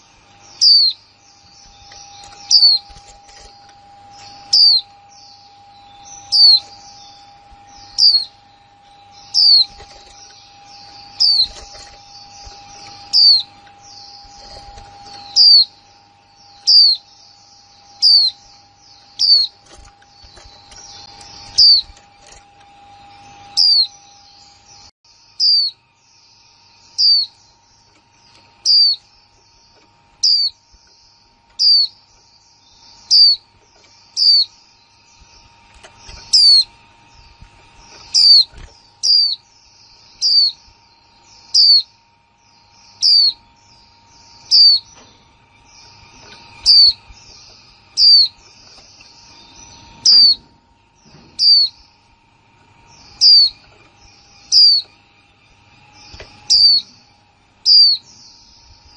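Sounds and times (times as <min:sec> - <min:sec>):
sharp high bird chirp: 0:00.0 - 0:25.8, 0:26.8 - 0:42.0, 0:42.6 - 0:52.0, 0:52.8 - 0:58.9
faint small birds chattering: 0:00.0 - 0:58.9.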